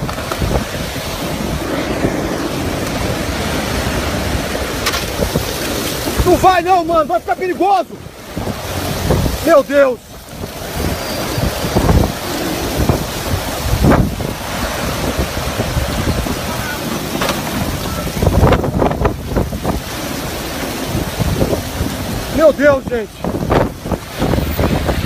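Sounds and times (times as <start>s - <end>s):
storm wind buffeting microphone: 0.0s - 25.0s
wind-driven rain: 0.0s - 25.0s.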